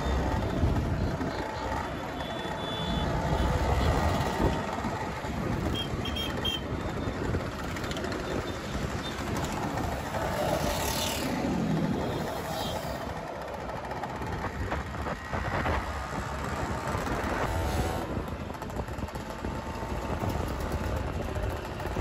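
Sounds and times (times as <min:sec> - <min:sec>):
motor scooters passing: 0:00.0 - 0:22.0.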